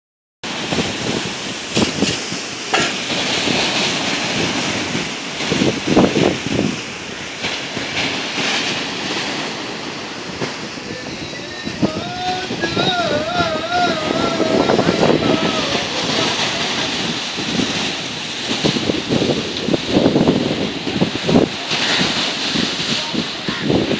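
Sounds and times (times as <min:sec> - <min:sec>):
sea surf crashing on seawall: 0:00.4 - 0:23.9
wind buffeting microphone: 0:00.4 - 0:23.9.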